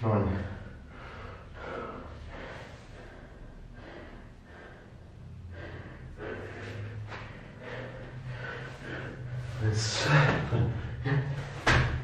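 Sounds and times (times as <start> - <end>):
man breathing hard: 0.4 - 12.0.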